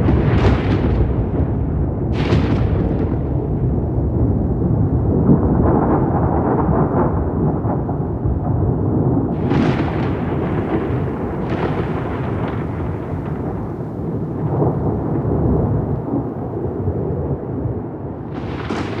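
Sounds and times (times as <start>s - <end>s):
rolling thunder: 0.0s - 19.0s
thunder crack: 0.0s - 19.0s.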